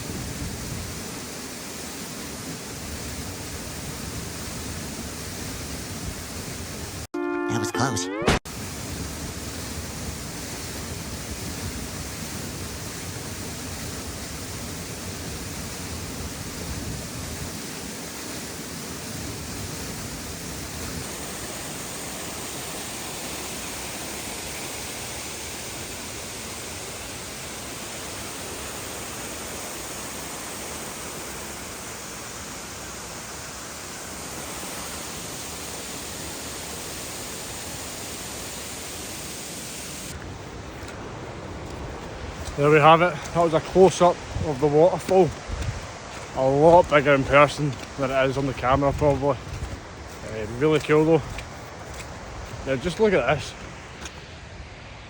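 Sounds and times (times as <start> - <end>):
waterfall rushing: 6.5 - 54.3.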